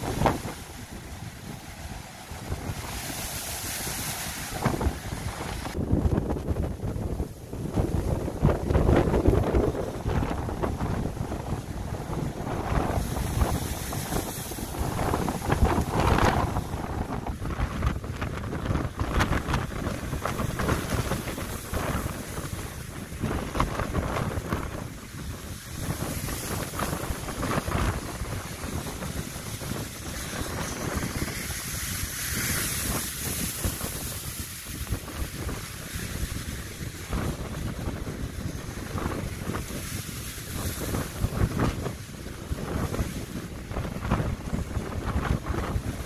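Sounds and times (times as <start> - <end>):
surf breaking against sea wall: 0.0 - 46.0
wind buffeting microphone: 0.0 - 46.0.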